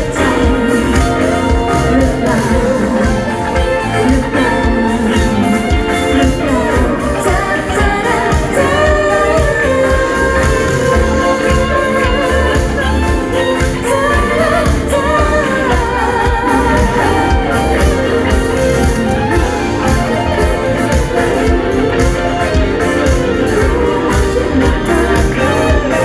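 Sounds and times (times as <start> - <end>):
bass guitar: 0.0 - 26.0
drum beat with cymbals: 0.0 - 26.0
electric guitars: 0.0 - 26.0
woman singing: 0.0 - 26.0.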